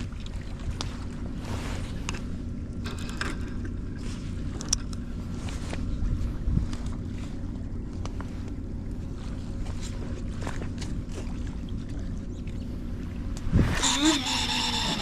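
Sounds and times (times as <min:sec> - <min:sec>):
faint hum: 0:00.0 - 0:15.0
low steady rumble: 0:00.0 - 0:15.0.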